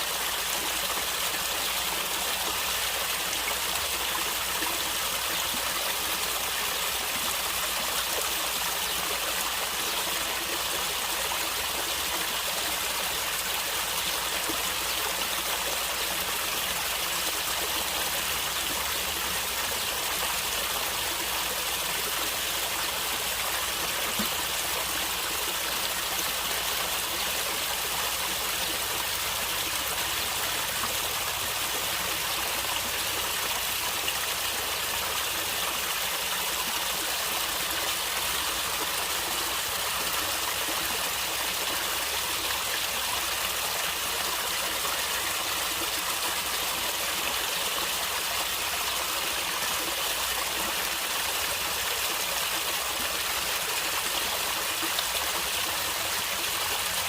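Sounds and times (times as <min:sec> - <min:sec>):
stream water gurgling: 0:00.0 - 0:57.0.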